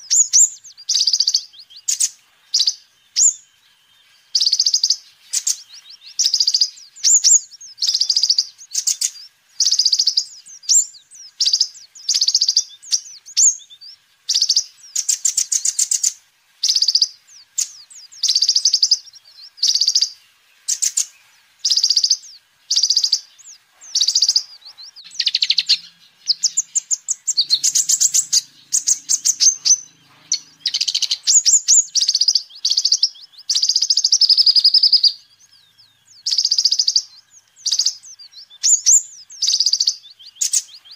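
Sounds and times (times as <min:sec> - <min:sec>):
bird singing trilled phrases: 0:00.0 - 0:40.9.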